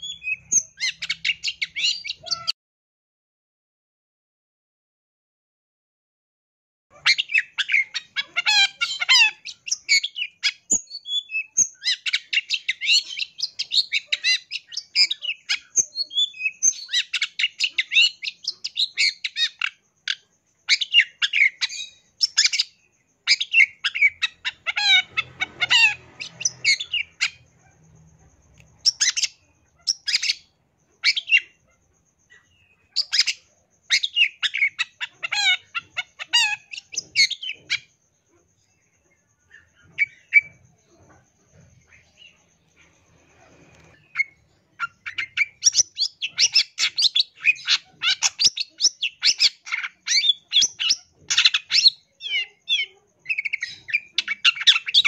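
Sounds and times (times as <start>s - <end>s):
bird singing fast chattering song: 0.0s - 2.5s, 6.9s - 55.0s.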